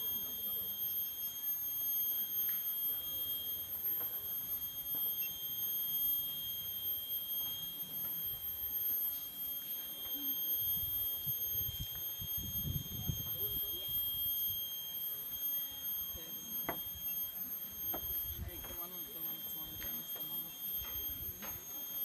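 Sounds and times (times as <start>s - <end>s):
high-pitched insect drone: 0.0s - 22.0s
murmur of distant voices: 0.0s - 22.0s.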